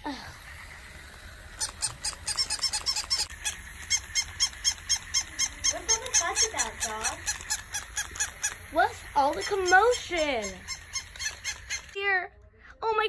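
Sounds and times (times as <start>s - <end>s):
toy puppies yapping: 0.4s - 12.0s.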